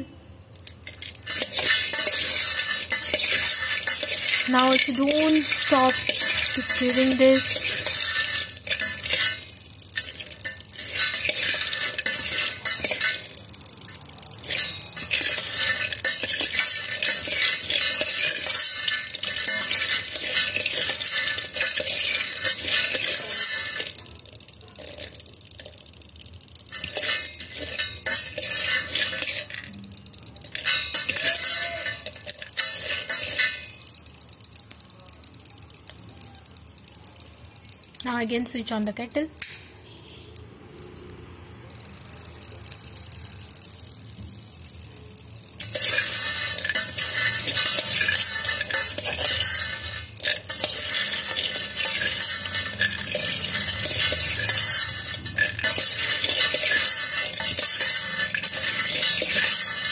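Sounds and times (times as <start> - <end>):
spoon stirring nuts in steel bowl: 0.0 - 41.0, 44.2 - 59.9.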